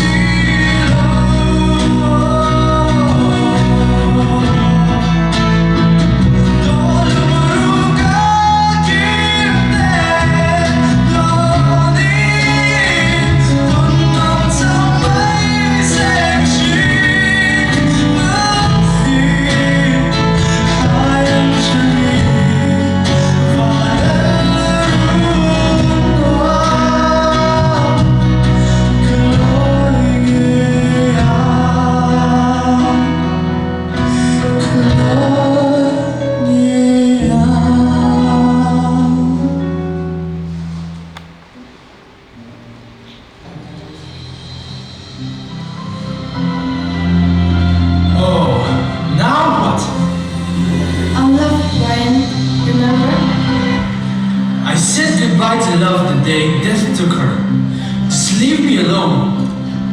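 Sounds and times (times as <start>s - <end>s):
song with singing and instruments: 0.0s - 59.9s.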